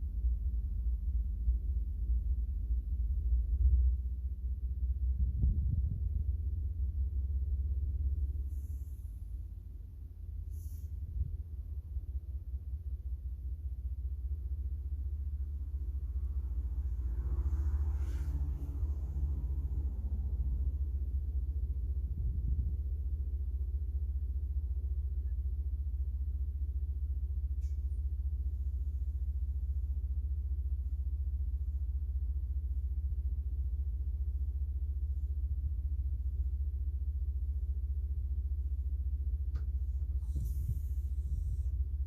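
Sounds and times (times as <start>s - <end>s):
diesel engine rumble: 0.0s - 42.0s.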